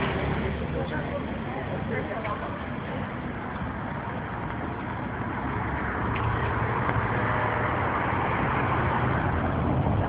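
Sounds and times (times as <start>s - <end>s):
low engine rumble: 0.0s - 10.0s
road and wind hiss: 0.0s - 10.0s.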